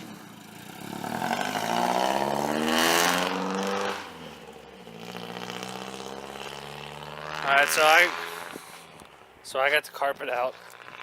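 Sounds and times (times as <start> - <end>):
car exhaust accelerating: 0.0 - 9.4.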